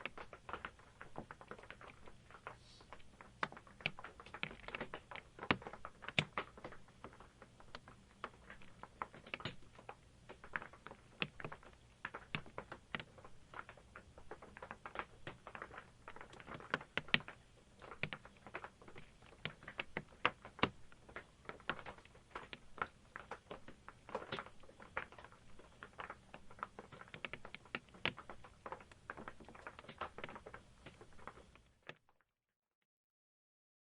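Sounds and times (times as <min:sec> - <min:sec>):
rain pattering on a roof: 0:00.0 - 0:32.0.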